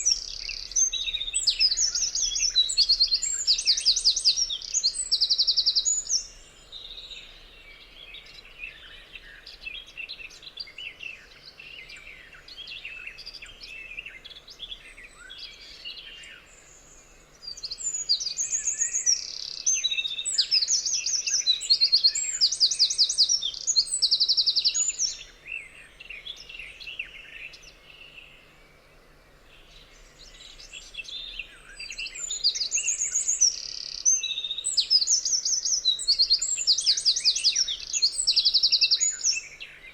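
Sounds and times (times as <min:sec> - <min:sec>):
soft bird chirps: 0:00.0 - 0:39.9
songbirds trilling: 0:00.0 - 0:39.9.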